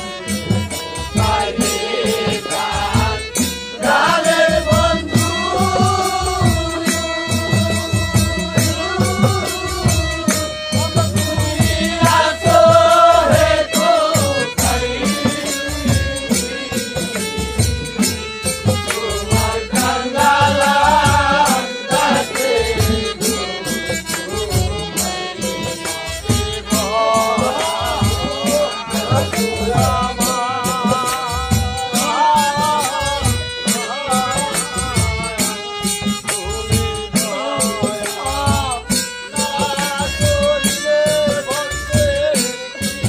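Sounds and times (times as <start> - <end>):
harmonium: 0.0 - 43.0
percussion strokes: 0.0 - 43.0.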